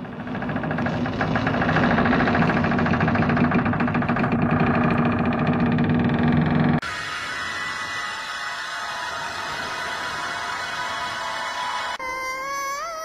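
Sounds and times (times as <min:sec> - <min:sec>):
buzzing fluttering drone: 0:00.0 - 0:12.0.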